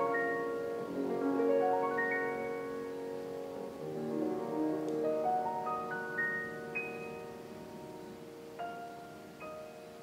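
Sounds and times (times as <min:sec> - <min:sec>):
classical solo piano: 0:00.0 - 0:10.0.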